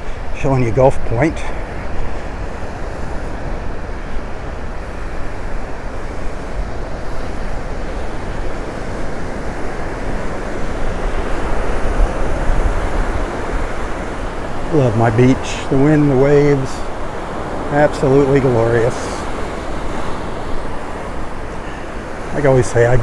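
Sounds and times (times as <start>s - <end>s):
surf washing on sandy beach: 0.0s - 23.0s
wind on microphone: 0.0s - 23.0s.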